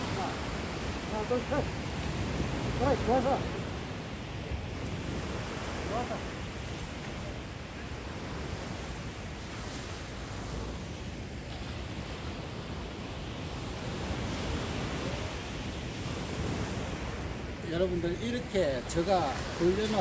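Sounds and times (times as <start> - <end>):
surf breaking on beach: 0.0 - 12.5, 13.4 - 20.0.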